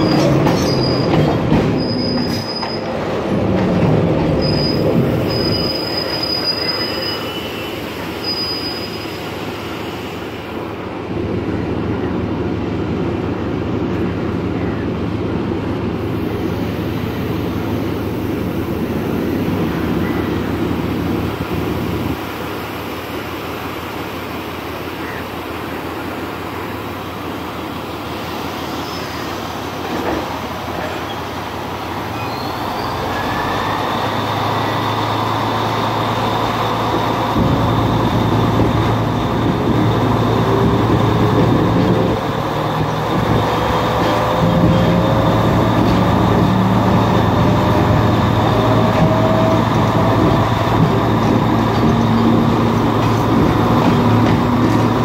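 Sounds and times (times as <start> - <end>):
train running on rails: 0.0 - 55.0.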